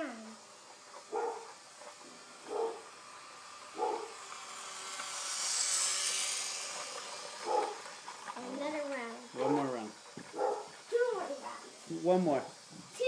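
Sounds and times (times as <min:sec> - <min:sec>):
toy train hissing whir: 0:00.0 - 0:13.0.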